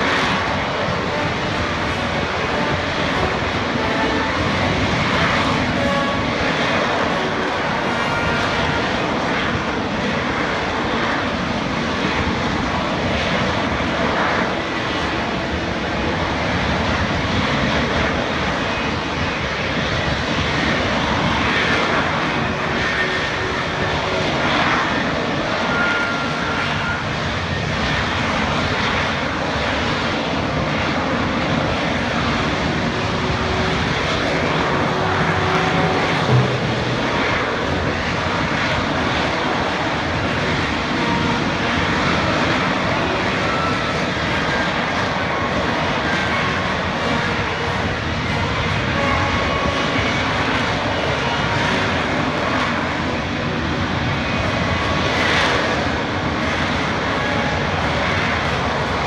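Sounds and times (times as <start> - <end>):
loud jet roar: 0.0 - 59.0.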